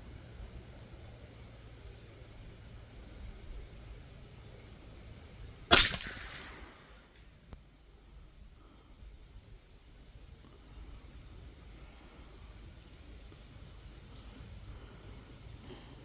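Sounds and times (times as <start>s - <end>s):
insects calling: 0.0s - 16.0s.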